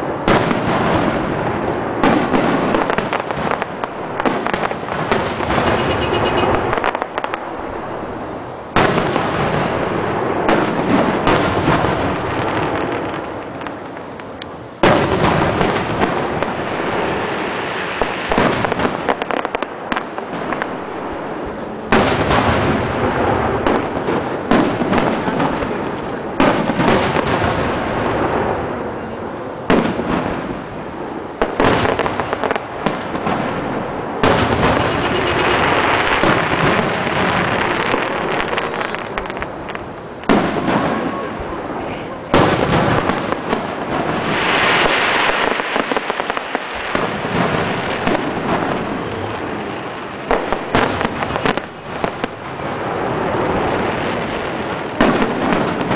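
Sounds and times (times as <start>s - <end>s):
fireworks bursting: 0.0s - 55.9s
fireworks crackle: 0.0s - 55.9s.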